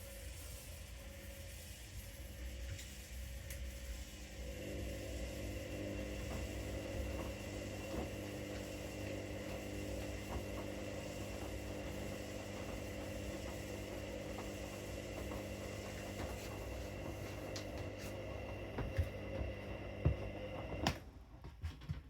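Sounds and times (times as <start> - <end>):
washing machines running: 0.0 - 22.0.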